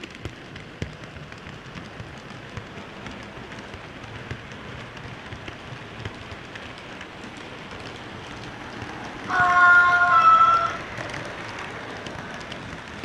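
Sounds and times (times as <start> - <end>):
model train rattling on track: 0.0 - 13.0
wheels clicking on rails: 0.0 - 13.0.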